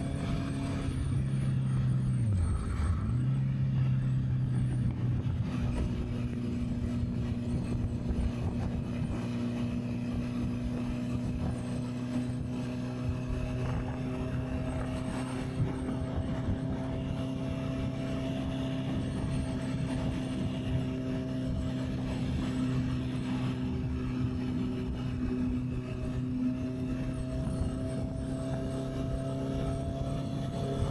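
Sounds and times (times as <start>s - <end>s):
motorcycle engine cruising: 0.0s - 30.9s
wind buffeting microphone: 3.8s - 30.9s.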